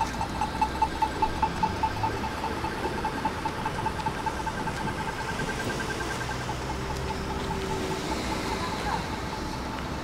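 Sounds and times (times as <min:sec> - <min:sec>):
rapid high beeping: 0:00.0 - 0:10.0
tram rumble and hum: 0:00.0 - 0:10.0.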